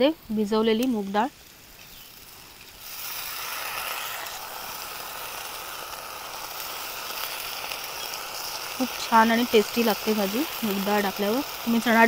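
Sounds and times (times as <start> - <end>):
lentils sizzling in hot oil: 0.0 - 12.0.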